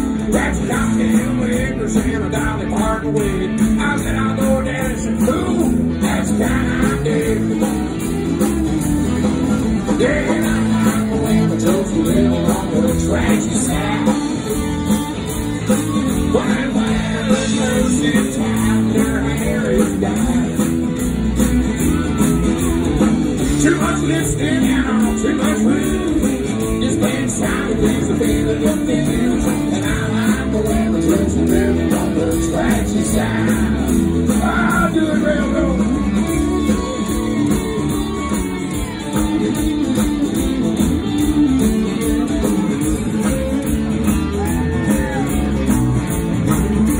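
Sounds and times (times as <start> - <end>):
live country band playing: 0.0 - 46.9.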